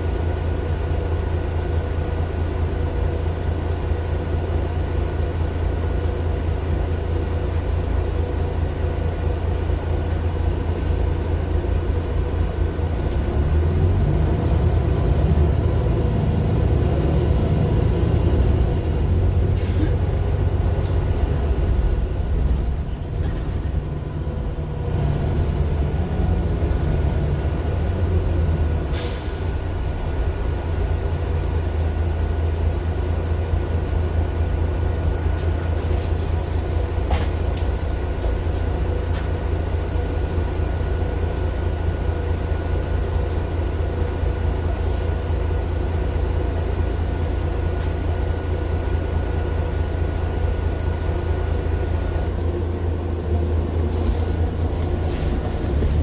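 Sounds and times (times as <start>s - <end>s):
bus diesel engine droning: 0.0s - 56.0s
faint engine whine: 0.0s - 56.0s.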